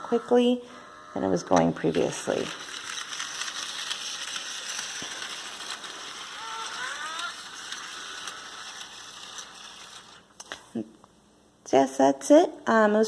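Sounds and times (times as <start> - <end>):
toy train motor whirring: 0.0 - 10.7.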